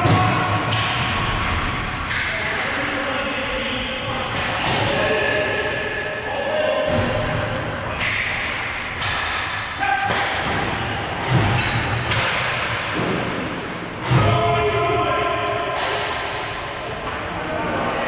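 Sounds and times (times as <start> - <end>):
hubbub in a large hall: 0.0 - 18.0.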